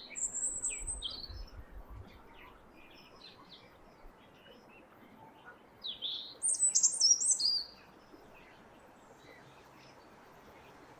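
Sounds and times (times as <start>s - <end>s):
faint bird chirps: 0.0s - 10.8s.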